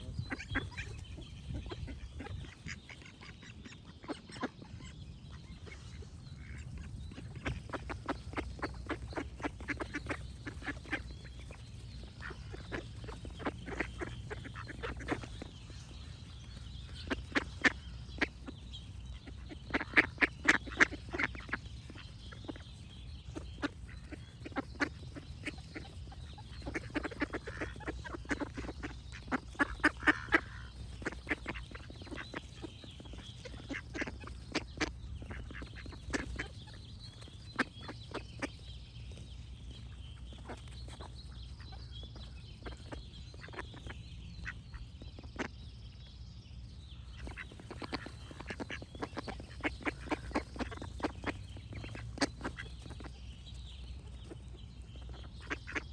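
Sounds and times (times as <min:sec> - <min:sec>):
ducks quacking: 0:00.0 - 0:45.7, 0:47.0 - 0:55.9
birds singing faintly: 0:00.0 - 0:55.9.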